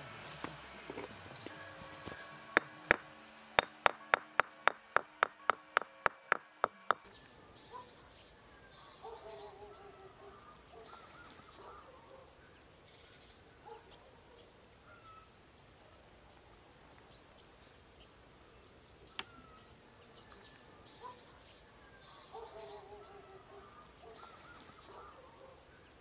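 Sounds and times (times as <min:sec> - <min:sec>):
distant birds warbling: 0:00.6 - 0:26.0.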